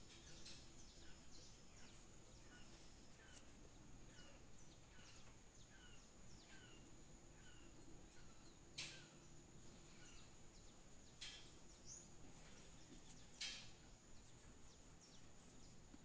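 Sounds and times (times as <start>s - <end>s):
bird chirping faintly: 0.0s - 16.0s.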